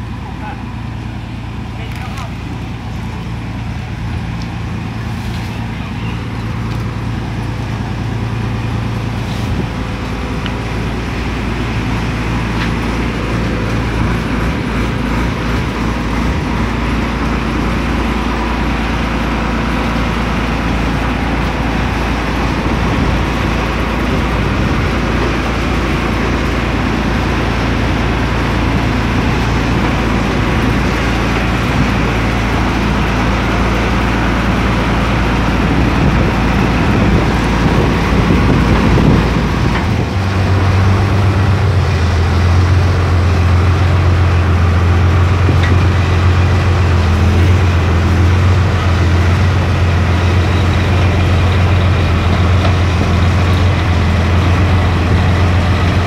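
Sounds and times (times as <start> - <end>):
combine harvester diesel engine: 0.0 - 56.0.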